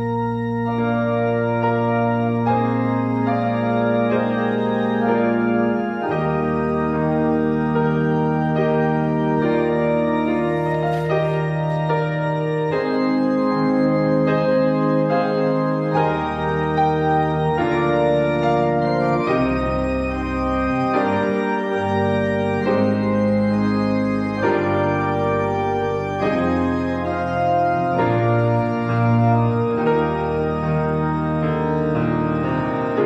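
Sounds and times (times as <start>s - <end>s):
organ playing sustained chords: 0.0s - 33.0s.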